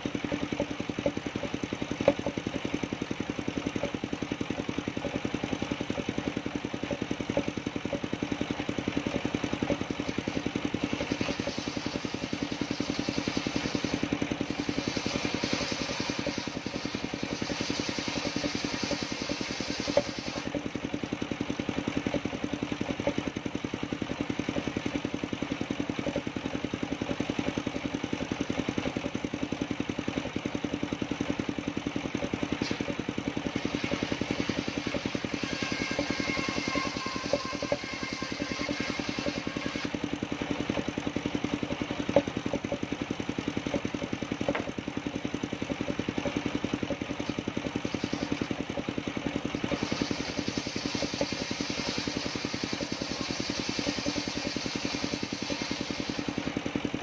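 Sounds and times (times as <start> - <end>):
saw blade cutting wood: 0.0 - 29.6, 32.0 - 57.0
sawmill engine running: 0.0 - 57.0.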